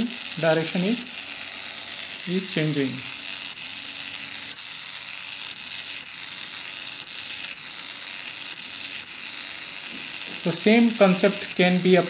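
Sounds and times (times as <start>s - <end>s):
small gear motor whirring: 0.0s - 12.0s.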